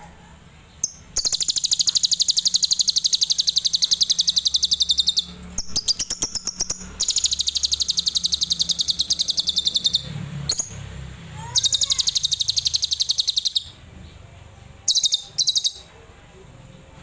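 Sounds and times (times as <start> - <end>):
bird chattering trills: 0.8 - 13.8, 14.9 - 15.9.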